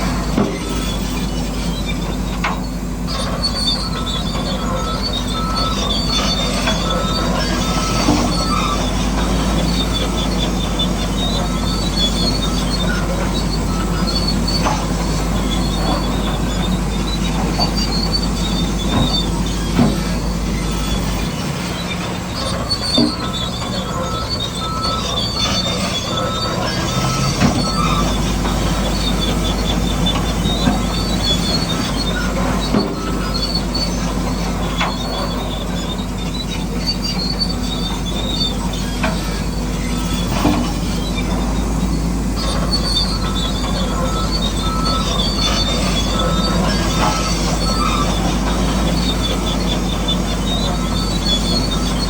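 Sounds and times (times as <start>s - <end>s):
crawler tracks squealing and clanking: 0.0s - 52.0s.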